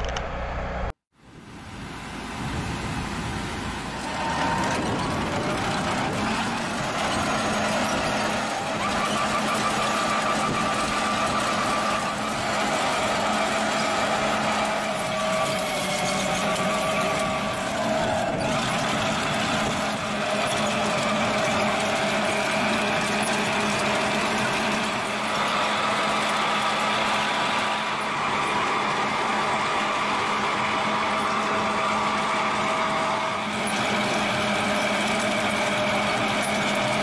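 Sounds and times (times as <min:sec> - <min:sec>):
trenching machine engine drone: 0:00.0 - 0:00.9, 0:02.1 - 0:37.0.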